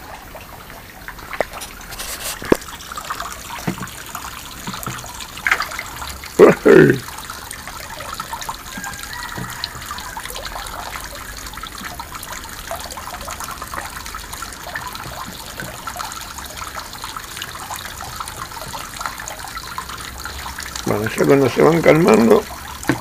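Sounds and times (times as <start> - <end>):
small water splashes: 0.0 - 23.0
water trickling into pond: 0.0 - 23.0.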